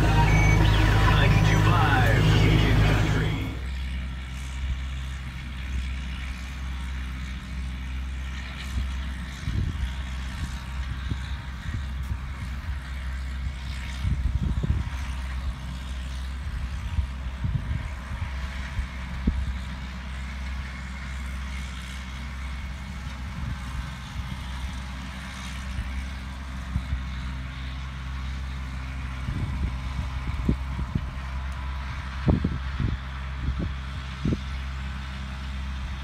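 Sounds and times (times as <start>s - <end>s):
distant tractor engine running: 0.0s - 36.0s.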